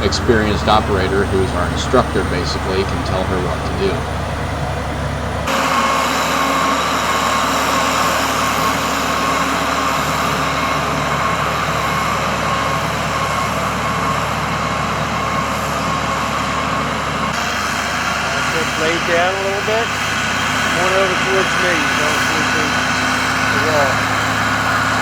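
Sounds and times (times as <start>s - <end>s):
bulldozer diesel engine running: 0.0s - 25.0s
constant whine: 0.0s - 25.0s.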